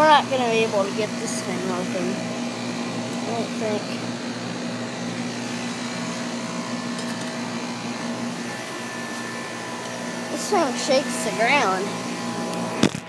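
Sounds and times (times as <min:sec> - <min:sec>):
compressor hum: 0:00.0 - 0:13.0
condenser fan rushing: 0:00.0 - 0:13.0.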